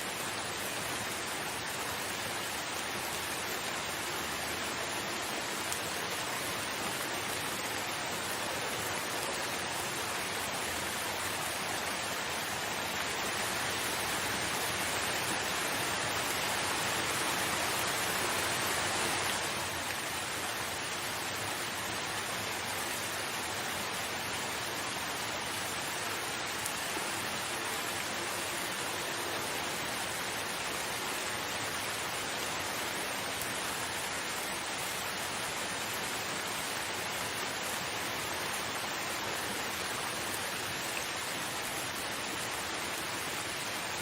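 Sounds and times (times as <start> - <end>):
steady rain hissing: 0.0 - 44.0.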